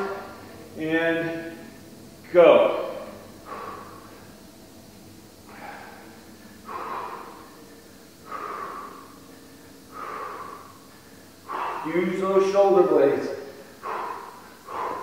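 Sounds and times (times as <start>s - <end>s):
man breathing hard: 0.0s - 2.0s, 2.9s - 15.0s.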